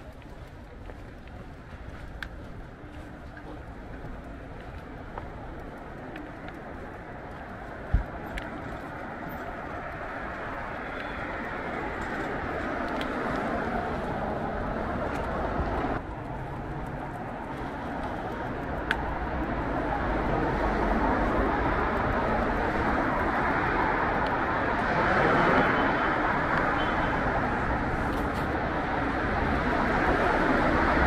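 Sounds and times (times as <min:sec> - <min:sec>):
passing vehicles: 0:00.0 - 0:31.0.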